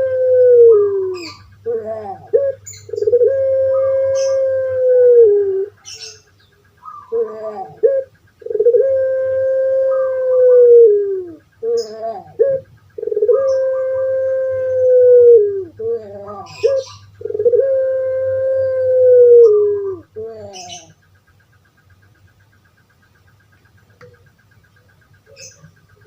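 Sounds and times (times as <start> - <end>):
dove cooing: 0.0 - 22.1, 22.8 - 26.0.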